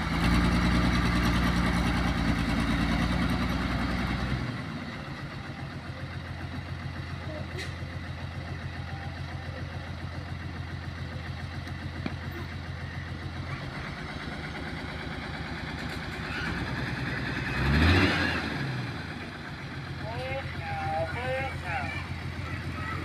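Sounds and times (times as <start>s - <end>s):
diesel truck engine idling and revving: 0.0s - 23.0s.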